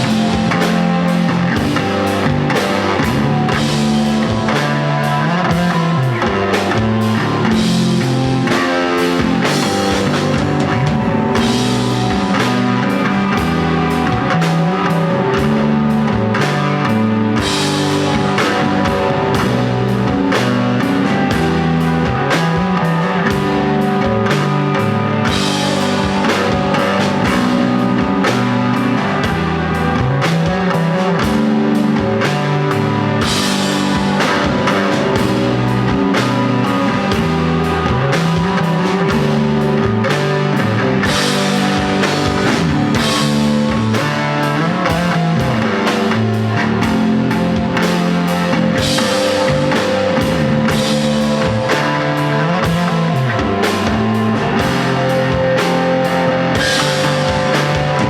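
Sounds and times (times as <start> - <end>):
bass line: 0.0 - 58.0
drum kit: 0.0 - 58.0
electric guitar: 0.0 - 58.0.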